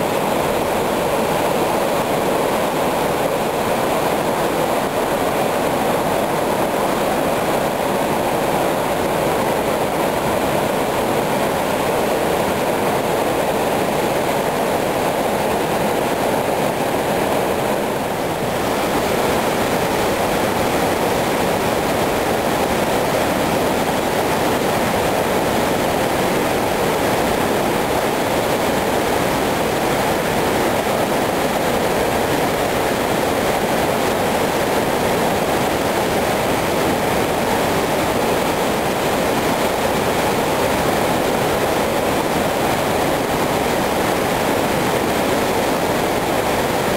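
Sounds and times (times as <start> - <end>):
whitewater crashing over boulders: 0.0 - 46.9.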